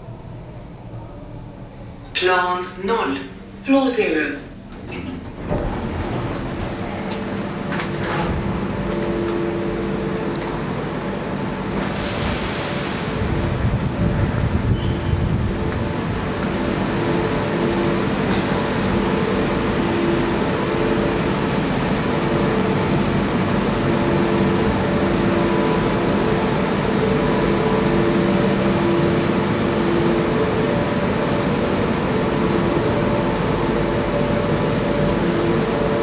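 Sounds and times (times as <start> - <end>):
electric train equipment humming: 0.0 - 36.0
station ventilation: 0.0 - 36.0.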